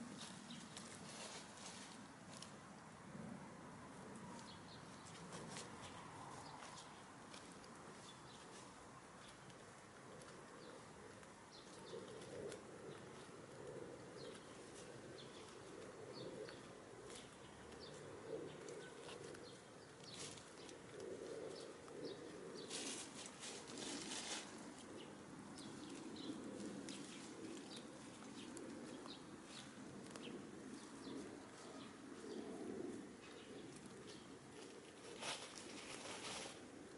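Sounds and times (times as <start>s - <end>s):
hens pecking and rustling leaves: 0.0s - 36.9s.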